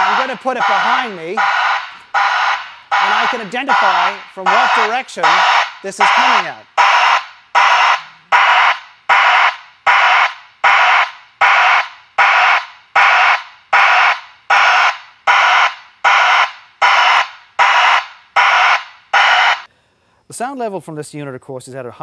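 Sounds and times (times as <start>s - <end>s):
pulsed hissing backup alarm: 0.0s - 19.7s.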